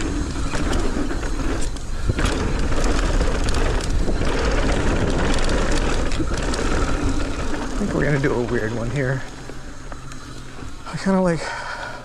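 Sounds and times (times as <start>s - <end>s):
wind rumbling on microphone: 0.0s - 10.8s
bike clicks and rattles: 0.0s - 12.0s
tyres on dirt: 0.0s - 12.0s.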